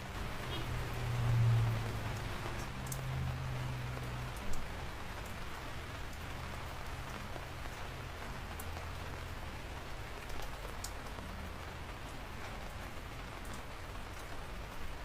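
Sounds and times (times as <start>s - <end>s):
steady rain falling: 0.0s - 15.0s
sharp taps of raindrops: 1.9s - 15.0s.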